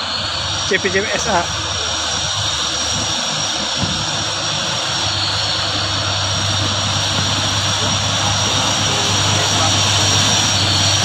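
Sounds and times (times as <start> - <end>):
diesel truck engine droning: 0.0 - 11.0
high-pitched whine: 0.0 - 11.0.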